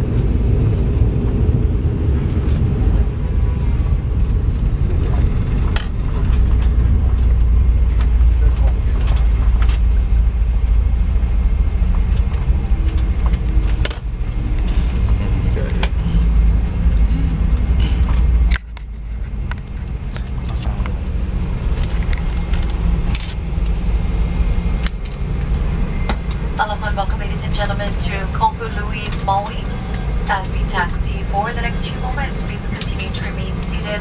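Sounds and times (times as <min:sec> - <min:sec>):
jet engines and wheels rumbling: 0:00.0 - 0:34.0
steady cabin hum: 0:00.0 - 0:34.0.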